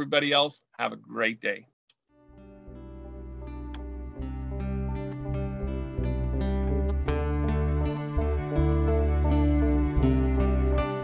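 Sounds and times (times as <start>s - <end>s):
music with sustained notes: 2.2s - 11.0s.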